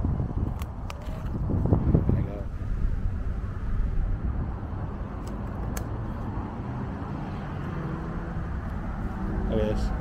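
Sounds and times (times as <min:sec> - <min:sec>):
distant road traffic rumble: 0:00.0 - 0:10.0.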